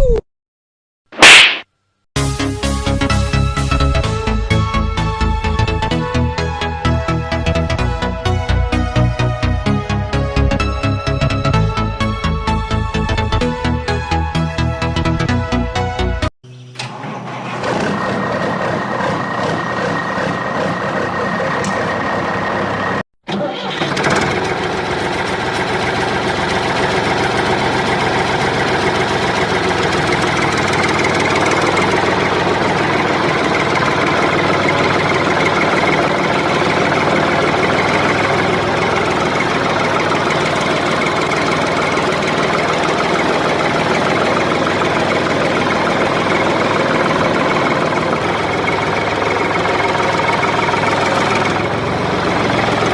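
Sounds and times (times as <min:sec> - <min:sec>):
tractor engine running: 0:02.7 - 0:15.6, 0:16.6 - 0:52.9.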